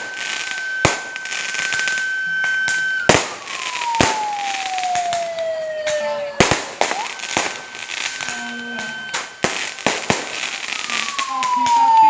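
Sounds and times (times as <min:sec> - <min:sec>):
firework whistle: 0:00.0 - 0:12.0
fireworks bangs: 0:00.0 - 0:12.0.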